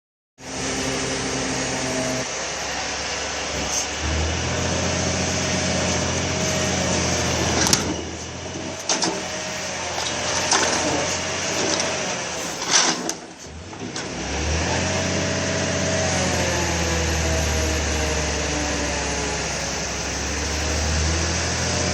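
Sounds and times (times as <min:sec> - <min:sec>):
truck engine running: 0:00.4 - 0:21.9.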